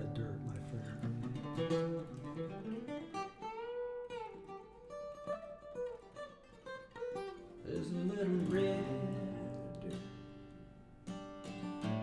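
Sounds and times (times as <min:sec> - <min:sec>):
acoustic guitar picked and strummed: 0:00.0 - 0:12.0.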